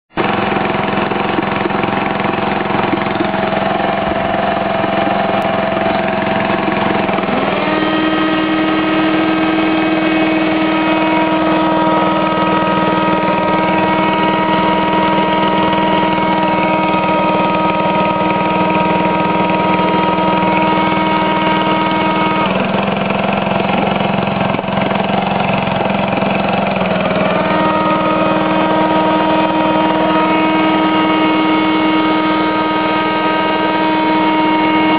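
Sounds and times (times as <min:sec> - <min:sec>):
generator humming: 0:00.1 - 0:34.9
vacuum cleaner whine: 0:00.2 - 0:34.9.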